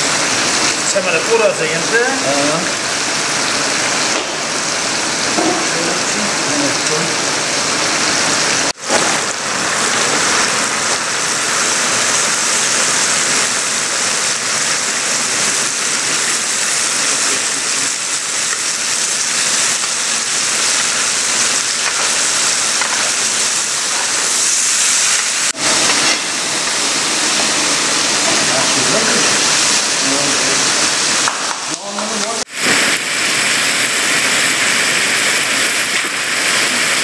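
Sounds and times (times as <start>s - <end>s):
oil sizzling: 0.0s - 37.0s.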